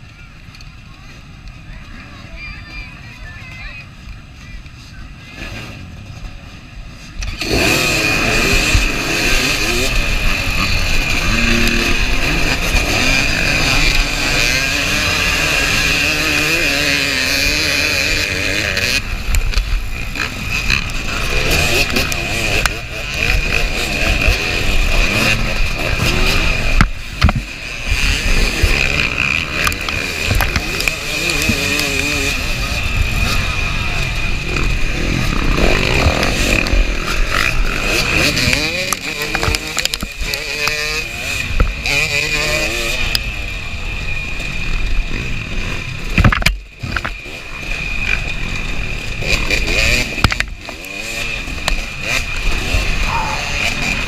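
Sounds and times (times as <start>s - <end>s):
dirt bike engine revving: 5.1s - 54.0s.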